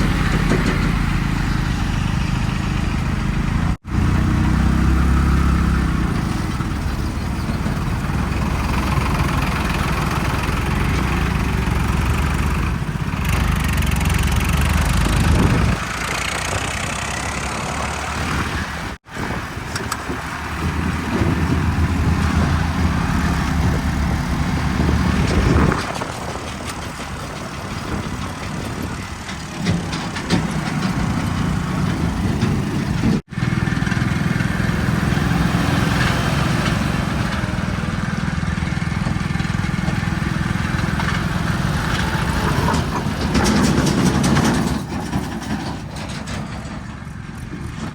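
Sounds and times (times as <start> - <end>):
heavy diesel engines labouring: 0.0 - 47.9.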